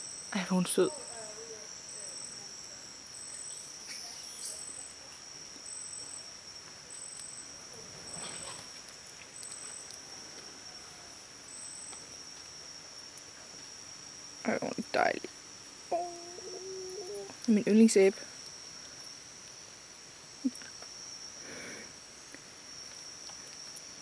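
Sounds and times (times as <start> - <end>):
insect chirping: 0.0 - 24.0
insect high-pitched drone: 0.0 - 24.0.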